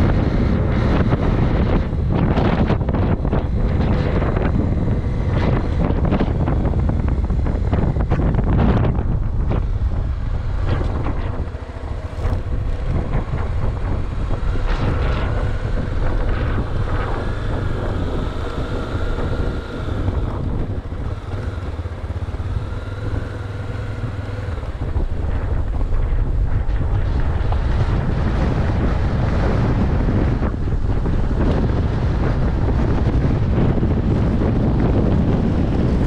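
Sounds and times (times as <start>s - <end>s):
motorcycle engine running: 0.0s - 36.0s
wind noise on microphone: 0.0s - 36.0s.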